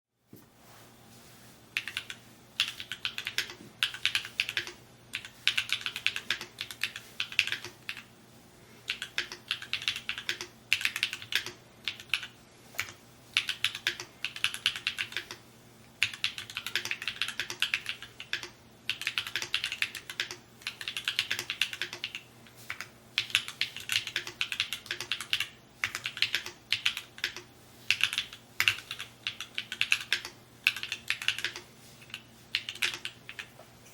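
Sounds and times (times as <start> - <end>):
mechanical keyboard typing: 1.8 - 8.1, 8.9 - 15.4, 16.0 - 33.6.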